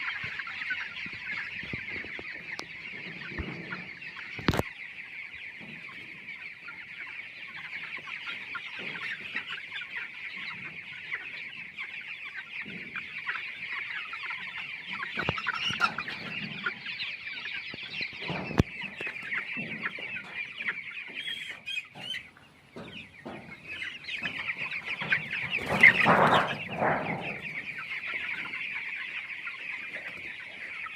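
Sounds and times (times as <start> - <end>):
chickens cheeping and clucking: 0.0 - 30.9.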